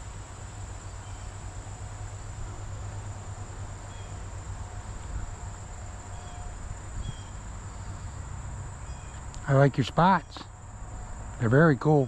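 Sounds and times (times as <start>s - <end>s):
insect chorus drone: 0.0s - 12.0s
low steady hum: 0.0s - 12.0s.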